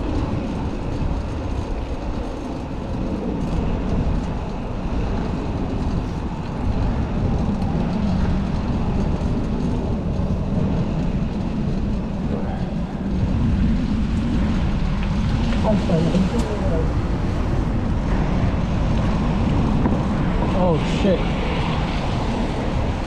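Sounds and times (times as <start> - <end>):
bicycle tyre and road noise: 0.0 - 23.0
wind rumble on microphone: 0.0 - 23.0.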